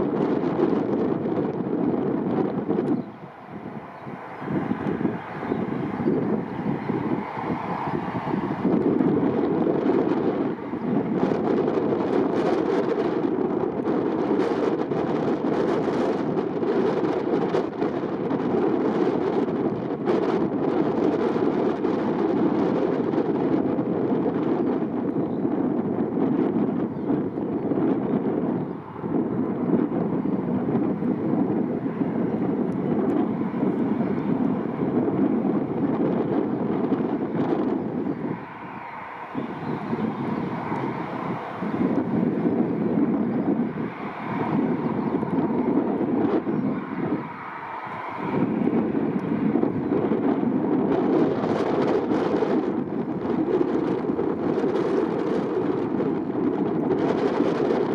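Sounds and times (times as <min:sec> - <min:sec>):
jet engines running: 0:00.0 - 0:57.9
wind on microphone: 0:00.0 - 0:57.9.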